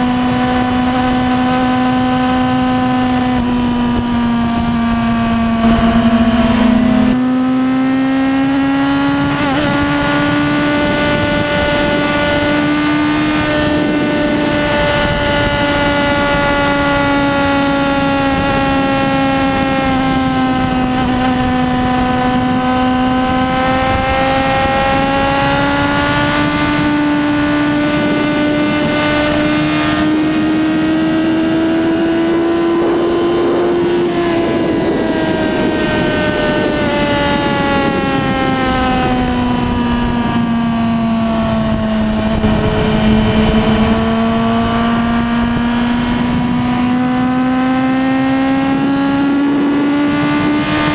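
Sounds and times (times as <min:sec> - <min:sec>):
motorcycle engine at high revs: 0:00.0 - 0:50.9
wind noise: 0:00.0 - 0:50.9.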